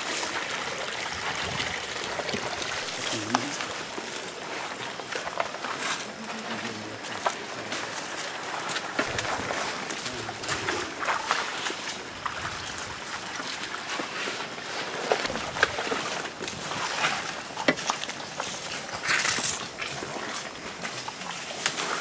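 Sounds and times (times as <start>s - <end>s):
rustling leaves and branches: 0.0s - 22.0s.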